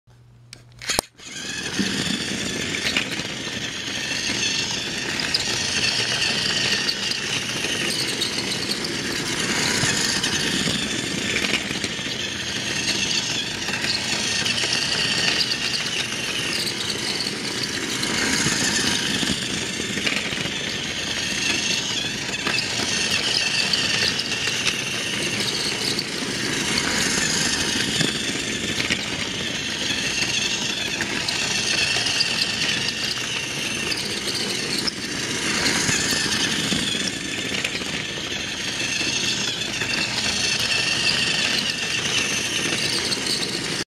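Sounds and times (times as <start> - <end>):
toy train motor whirring: 0.5 - 43.8
toy train wheels rattling: 0.5 - 43.8.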